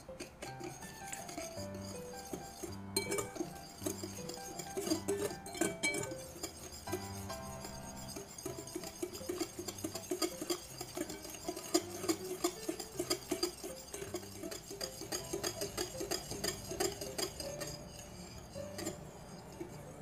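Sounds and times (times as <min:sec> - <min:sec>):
whisk beating in glass bowl: 0:00.0 - 0:20.0.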